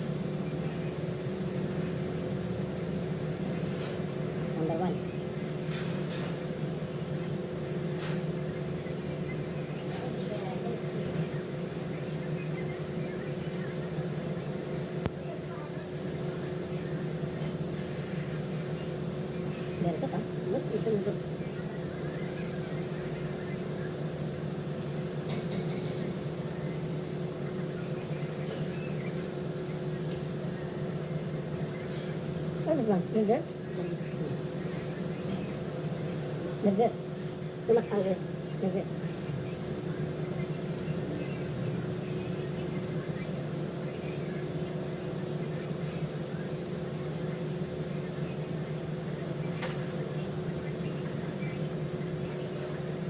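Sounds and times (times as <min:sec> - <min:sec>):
faint constant tones: 0:00.0 - 0:53.0
mechanical hum: 0:00.0 - 0:53.0.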